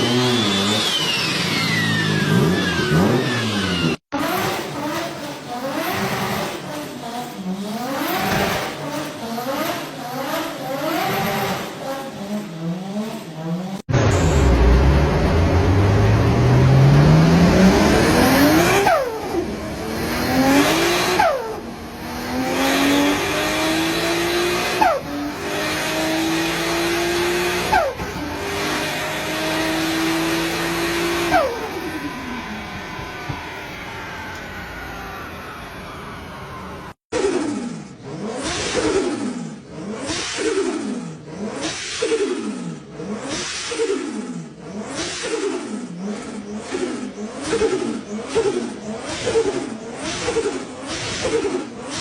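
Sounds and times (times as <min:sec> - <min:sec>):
car accelerating through gears: 0:00.0 - 0:52.0
car engine revving: 0:00.0 - 0:52.0.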